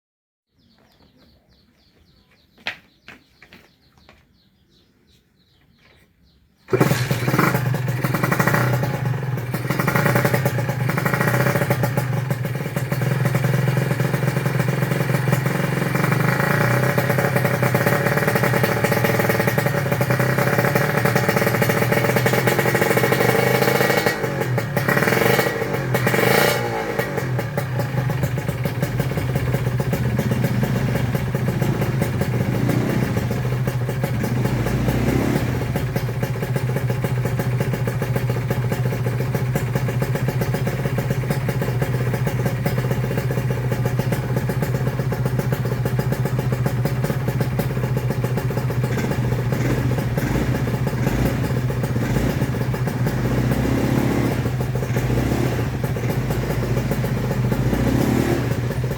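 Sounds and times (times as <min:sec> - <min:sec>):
motorcycle engine running: 0:06.7 - 0:58.9.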